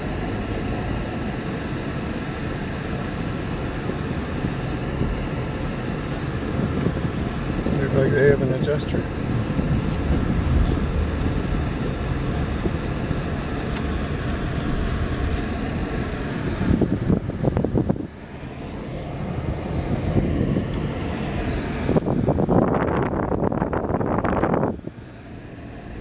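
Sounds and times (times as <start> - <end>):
car engine and road rumble: 0.0 - 26.0
wind noise on microphone: 3.2 - 8.4, 9.0 - 25.0.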